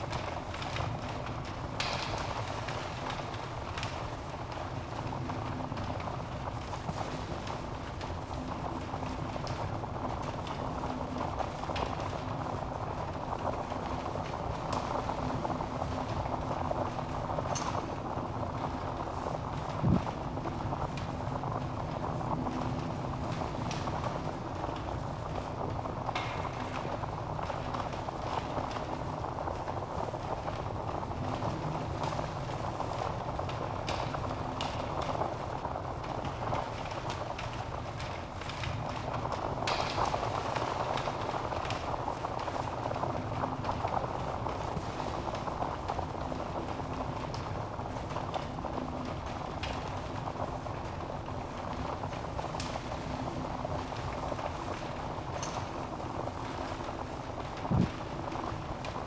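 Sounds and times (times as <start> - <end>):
flames rushing: 0.0 - 59.0
logs crackling and popping: 0.0 - 59.0.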